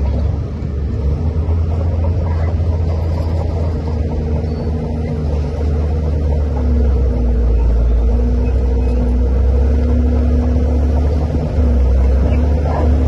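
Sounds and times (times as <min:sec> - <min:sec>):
bulldozer diesel engine rumbling: 0:00.0 - 0:13.0.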